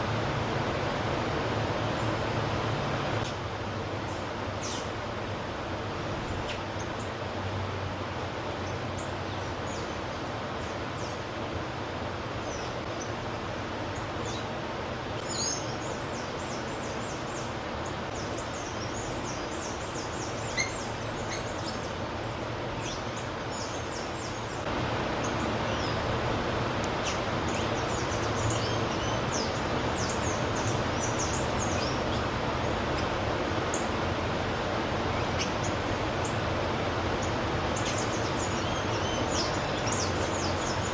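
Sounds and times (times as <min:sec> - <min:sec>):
steady background hiss: 0:00.0 - 0:40.9
wild birds chirping: 0:00.8 - 0:05.0, 0:08.4 - 0:40.9.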